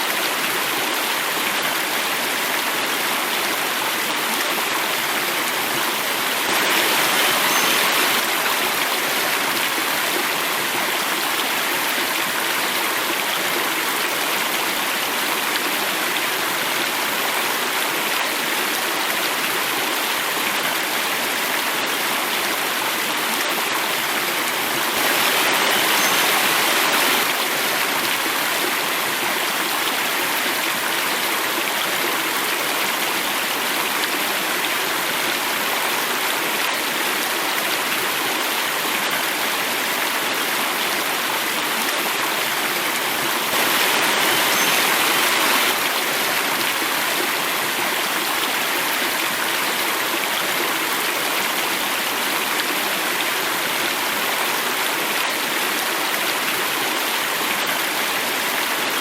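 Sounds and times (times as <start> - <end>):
water rushing in a stream: 0.0 - 59.0.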